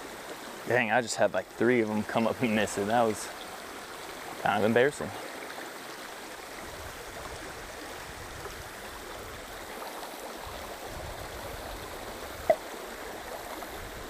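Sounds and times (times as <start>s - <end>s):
creek running over rocks: 0.0s - 14.0s.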